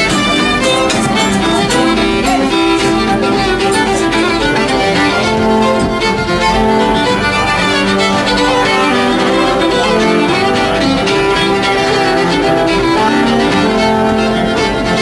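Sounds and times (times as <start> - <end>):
fiddles playing fast tune: 0.0 - 15.0
strummed acoustic guitar: 0.0 - 15.0.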